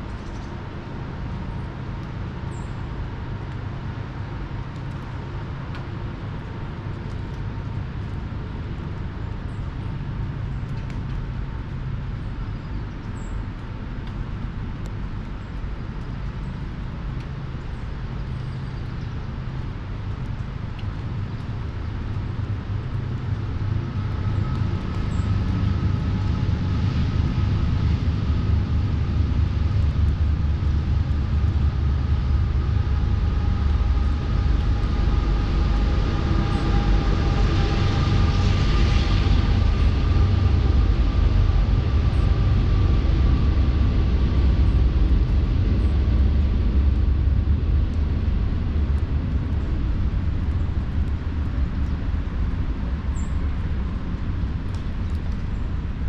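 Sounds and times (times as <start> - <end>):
distant traffic rumble: 0.0 - 56.0.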